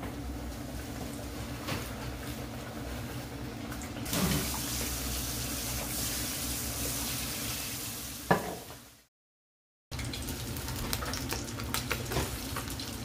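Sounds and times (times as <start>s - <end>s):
oil sizzling deep-frying: 0.0s - 9.1s, 9.9s - 13.0s.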